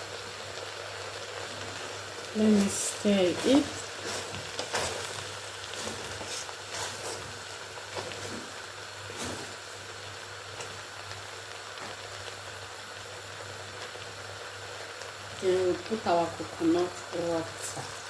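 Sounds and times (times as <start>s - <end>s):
food sizzling and bubbling in pot: 0.0s - 18.0s.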